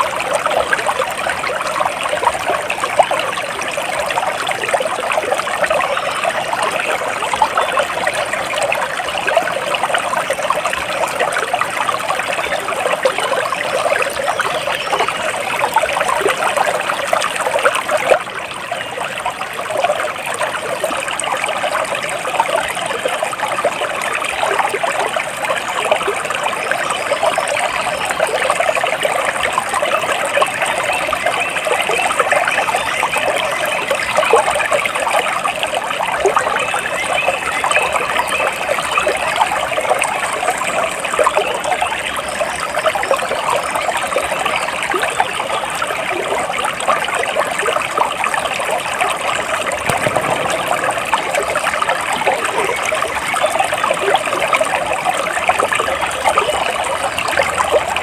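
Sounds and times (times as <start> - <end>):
water trickling: 0.0 - 32.5, 33.9 - 58.0.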